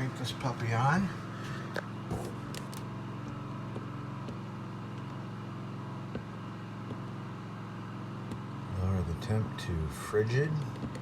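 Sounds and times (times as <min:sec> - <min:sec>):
generator engine humming: 0:00.0 - 0:11.0.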